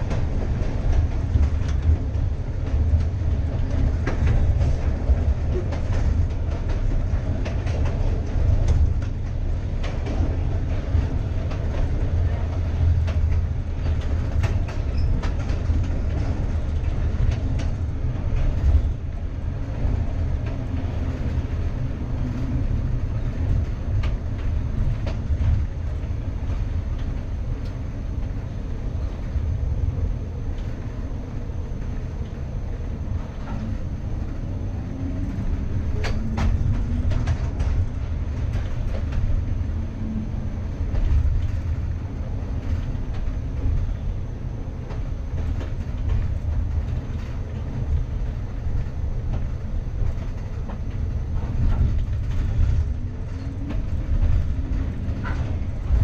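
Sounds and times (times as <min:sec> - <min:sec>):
streetcar rumbling: 0:00.0 - 0:56.0
wheels clacking on rails: 0:00.0 - 0:56.0.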